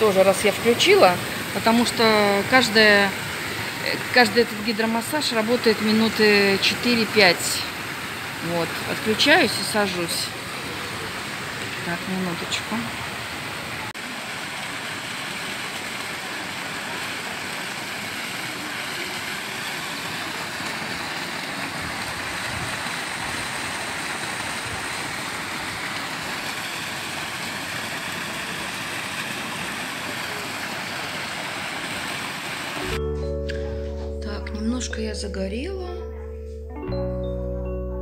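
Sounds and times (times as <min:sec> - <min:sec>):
water jets rushing and bubbling: 0:00.0 - 0:33.0.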